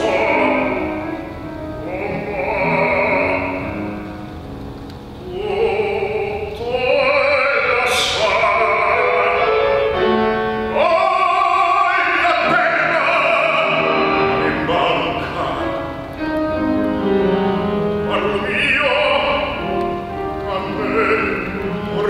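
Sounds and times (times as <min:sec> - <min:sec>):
operatic baritone singing: 0:00.0 - 0:04.2, 0:05.2 - 0:16.2, 0:17.6 - 0:22.0.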